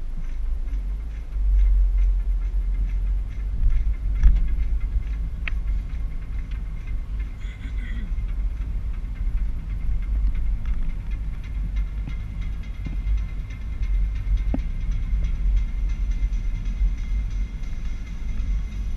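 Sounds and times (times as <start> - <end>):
car driving on tarmac: 0.0 - 18.9.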